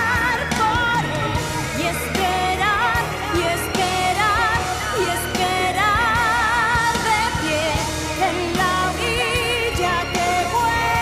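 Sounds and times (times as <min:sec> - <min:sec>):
live band with drums: 0:00.0 - 0:11.0
woman singing with vibrato: 0:00.0 - 0:11.0.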